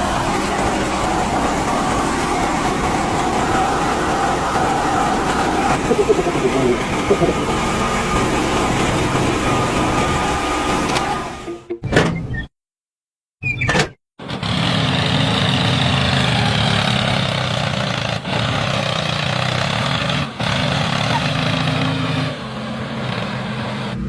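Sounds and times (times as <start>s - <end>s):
diesel engine droning: 0.0s - 11.7s, 14.2s - 24.0s.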